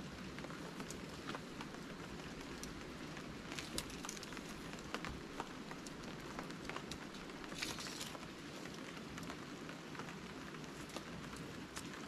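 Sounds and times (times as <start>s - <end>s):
drops ticking on a tarp: 0.0s - 12.0s
steady rain falling: 0.0s - 12.0s.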